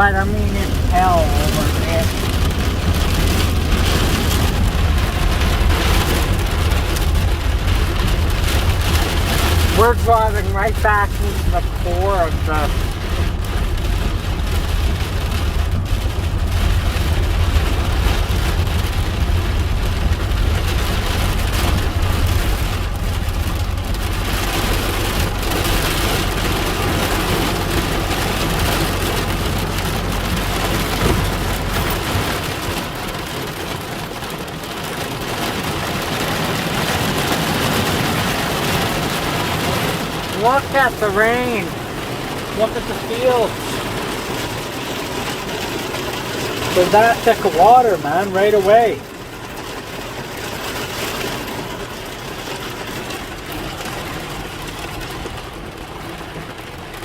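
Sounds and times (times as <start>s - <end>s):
heavy rain on a car: 0.0s - 57.0s
road and engine rumble: 0.0s - 57.0s.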